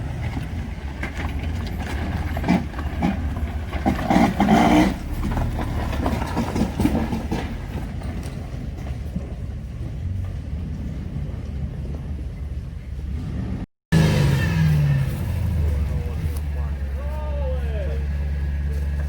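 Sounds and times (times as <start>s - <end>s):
off-road vehicle engine rumble: 0.0s - 19.0s.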